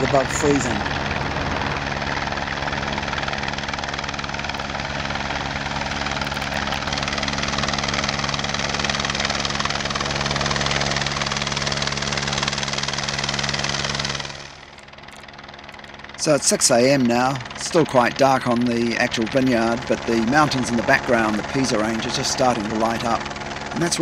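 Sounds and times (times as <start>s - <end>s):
helicopter rotor and engine drone: 0.0s - 24.0s.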